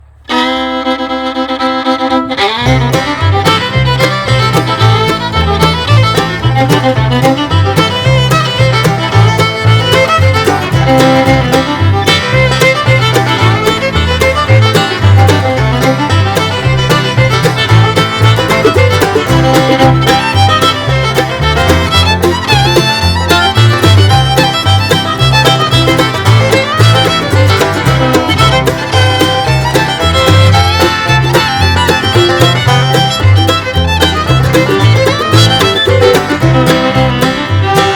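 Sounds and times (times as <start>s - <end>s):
bluegrass music: 0.0s - 37.9s.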